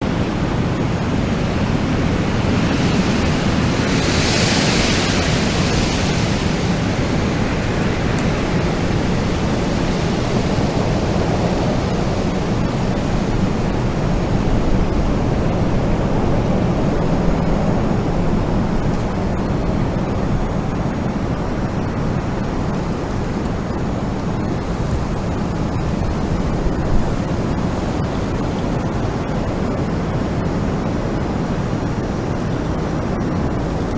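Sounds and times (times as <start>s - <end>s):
wind blowing: 0.0s - 33.9s.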